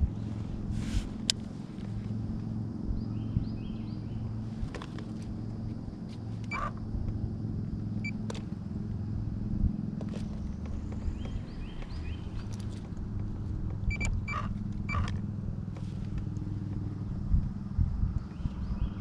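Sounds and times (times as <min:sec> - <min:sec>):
low motor hum: 0:00.0 - 0:19.0
low rumble: 0:00.0 - 0:19.0.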